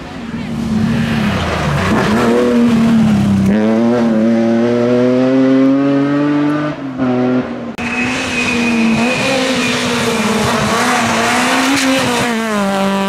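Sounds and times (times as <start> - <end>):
rally car engine accelerating: 0.4 - 13.0
rally car engine at high revs: 0.4 - 13.0.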